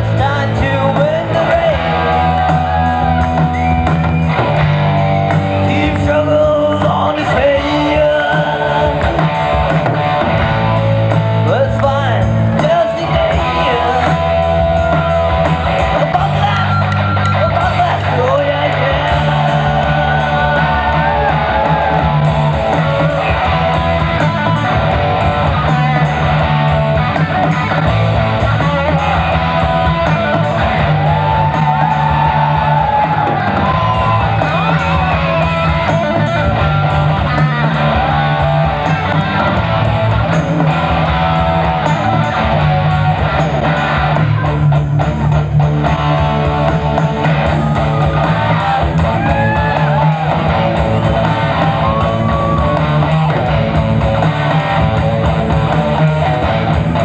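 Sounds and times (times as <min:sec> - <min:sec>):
lead guitar bending notes: 0:00.0 - 0:57.0
live rock band playing: 0:00.0 - 0:57.0.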